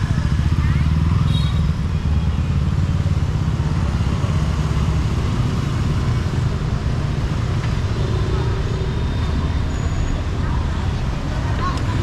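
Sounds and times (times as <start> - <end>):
motorbikes and cars passing: 0.0 - 12.0.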